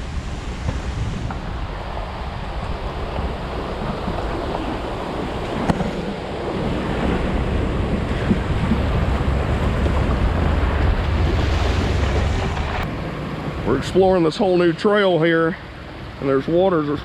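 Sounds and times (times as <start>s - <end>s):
wind buffeting microphone: 0.0s - 14.6s
rushing water: 0.0s - 17.0s.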